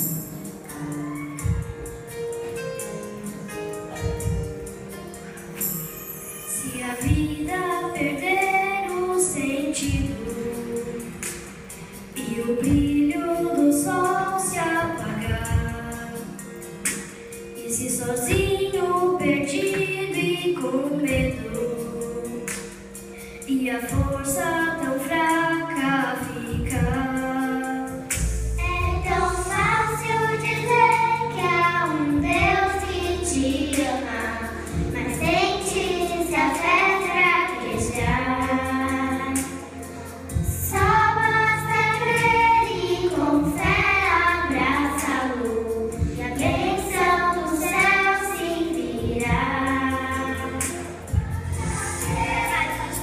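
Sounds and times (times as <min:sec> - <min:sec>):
instrumental backing: 0:00.0 - 0:53.0
children's choir singing: 0:06.5 - 0:22.9, 0:23.5 - 0:53.0.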